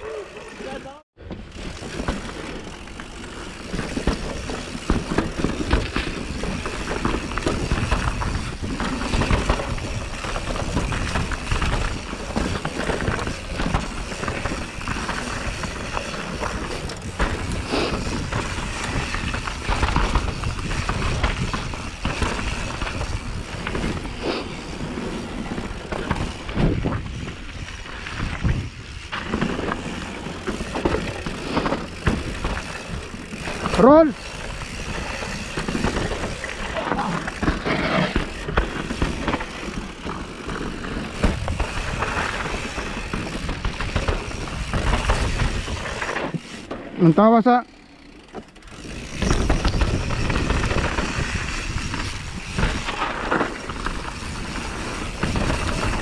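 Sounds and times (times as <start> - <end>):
tyres rushing over dirt: 0.0 - 47.2, 47.8 - 56.0
bike knocks and rattles: 0.6 - 47.0, 47.8 - 56.0.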